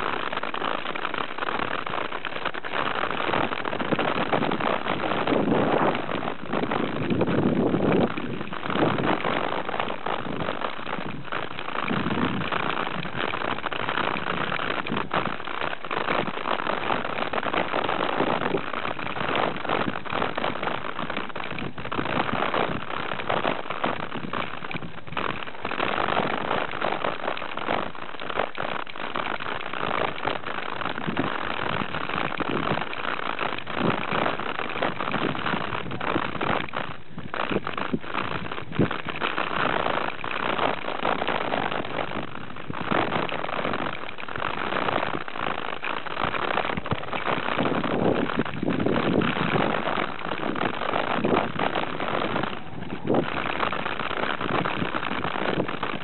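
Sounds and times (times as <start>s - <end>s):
wind and tyre noise: 0.0s - 56.0s.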